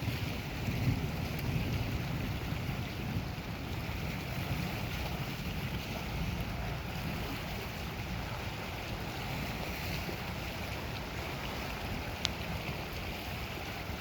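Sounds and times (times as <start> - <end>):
steady wind: 0.0 - 14.0
waves washing on shore: 0.0 - 14.0
wind rumbling on microphone: 0.0 - 14.0.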